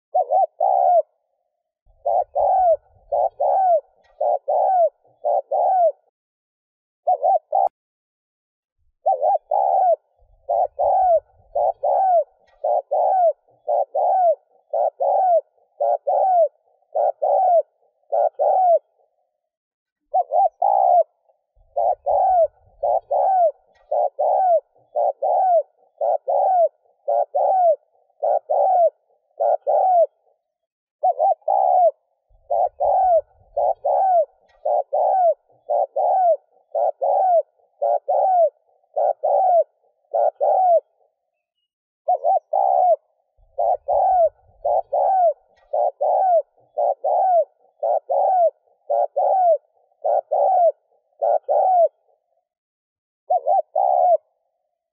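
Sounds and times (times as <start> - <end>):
dove cooing rapidly: 0.0 - 6.2, 7.0 - 7.8, 8.9 - 52.6, 53.3 - 54.9.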